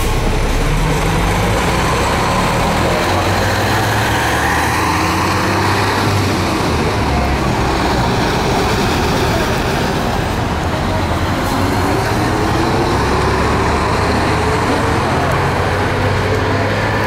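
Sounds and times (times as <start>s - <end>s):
bus diesel engine droning: 0.0s - 17.0s
tyre and traffic noise: 0.0s - 17.0s.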